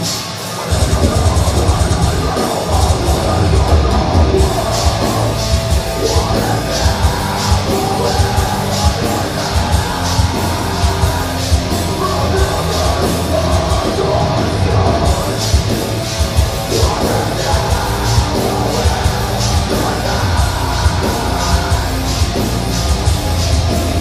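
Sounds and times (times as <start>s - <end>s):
bass guitar: 0.0s - 24.0s
distorted electric guitars: 0.0s - 24.0s
harsh screamed vocals: 0.0s - 24.0s
pounding drums: 0.0s - 24.0s.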